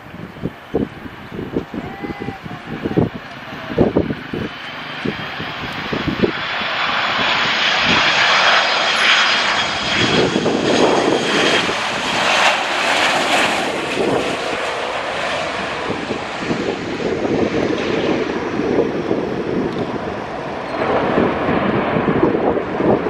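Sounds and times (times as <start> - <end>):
aeroplane passing overhead: 0.0 - 23.0.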